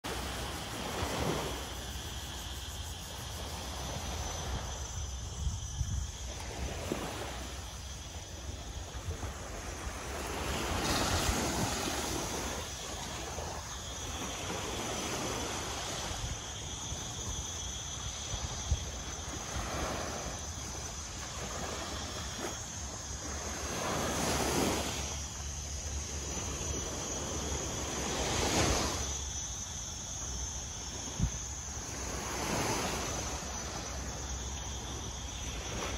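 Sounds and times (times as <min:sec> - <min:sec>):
small waves breaking on shore: 0:00.0 - 0:35.9
wind rumbling on microphone: 0:00.1 - 0:35.9.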